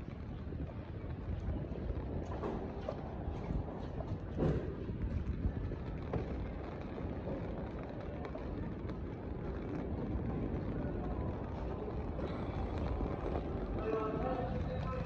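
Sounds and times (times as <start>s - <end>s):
low street rumble: 0.0s - 15.0s
wind buffeting microphone: 0.0s - 15.0s.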